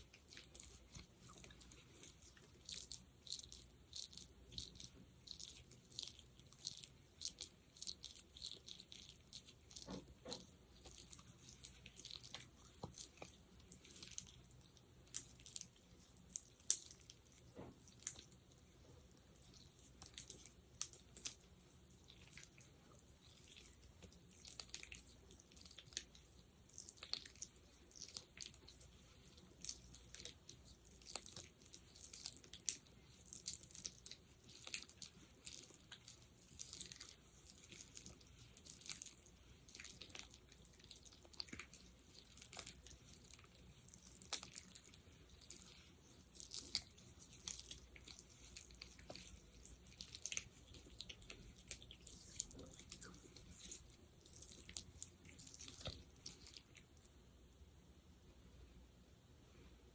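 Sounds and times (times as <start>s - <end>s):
sticky gel squelching: 0.0s - 57.0s.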